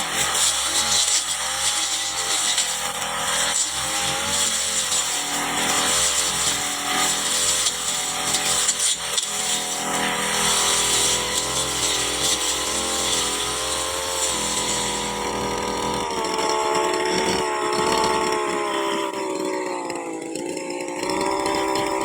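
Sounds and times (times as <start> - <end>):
brush cutter engine whining: 0.0 - 22.0.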